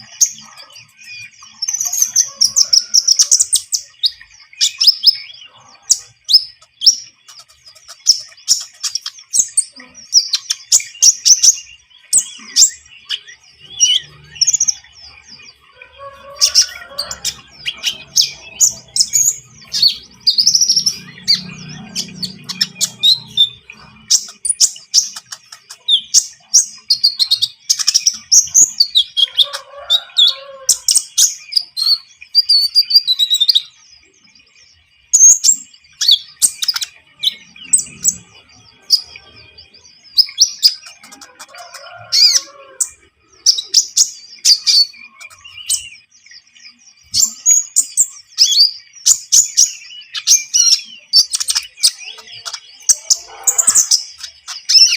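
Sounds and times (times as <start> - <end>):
songbird chirping and trilling: 0.0 - 54.9.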